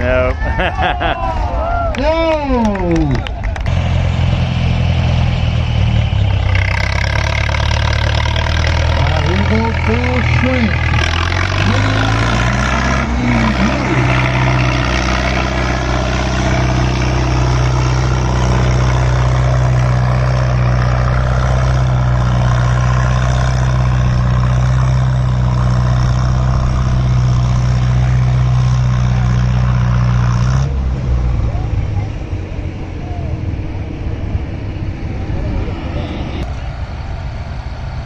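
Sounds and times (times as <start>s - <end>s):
tractor engine running under load: 3.4s - 35.0s.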